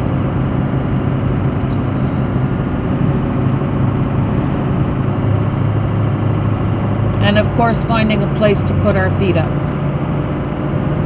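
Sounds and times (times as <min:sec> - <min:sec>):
vehicle engine and road drone: 0:00.0 - 0:11.0.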